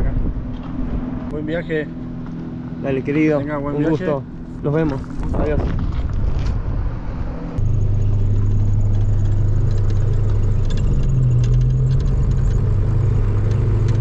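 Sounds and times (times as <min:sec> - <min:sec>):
van engine droning: 0:00.0 - 0:14.0.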